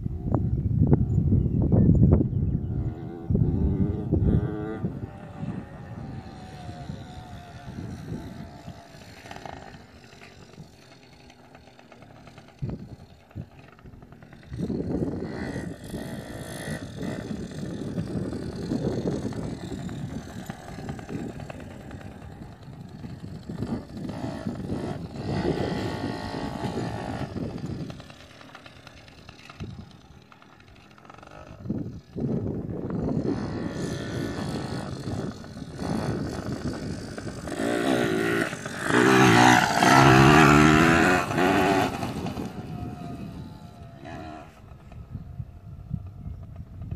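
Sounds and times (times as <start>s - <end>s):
dirt bike engine revving: 2.5s - 46.9s.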